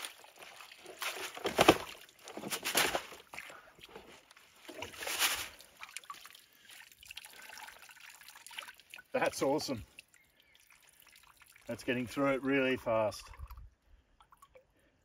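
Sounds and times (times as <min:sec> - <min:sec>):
water trickling and dripping: 0:00.0 - 0:02.4, 0:03.2 - 0:14.9
water sloshing and splashing: 0:00.0 - 0:14.7.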